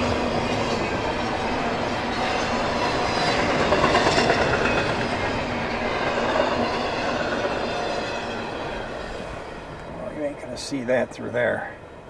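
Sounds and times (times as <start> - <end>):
freight train passing on rails: 0.0 - 12.0.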